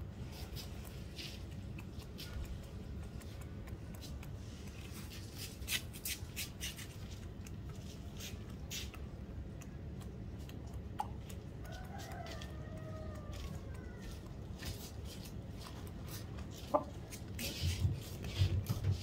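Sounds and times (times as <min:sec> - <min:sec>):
beak tapping concrete: 0:00.4 - 0:19.0.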